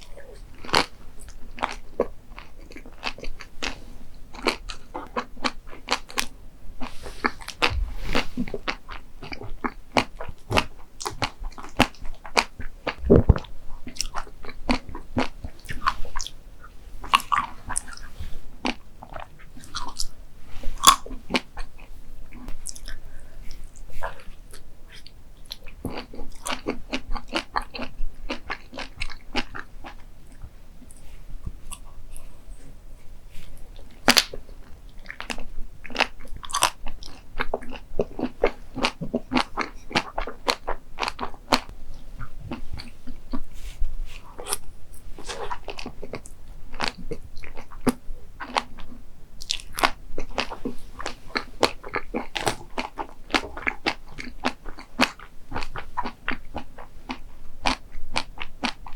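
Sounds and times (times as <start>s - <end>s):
crunchy bites and chewing: 0.0s - 16.4s, 17.0s - 31.0s, 33.8s - 41.7s, 44.2s - 58.9s.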